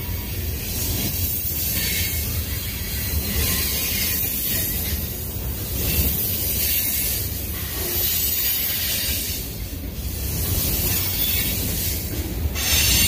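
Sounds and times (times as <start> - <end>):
freight train cars rolling: 0.0 - 13.0.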